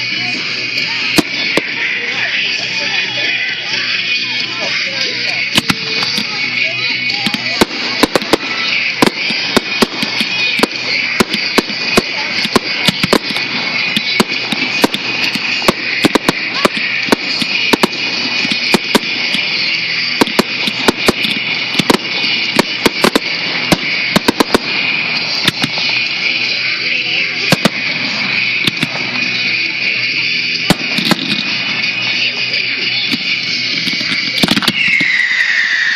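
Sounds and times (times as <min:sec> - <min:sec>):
fireworks bangs: 0:00.0 - 0:35.9
steady high hiss: 0:00.0 - 0:35.9.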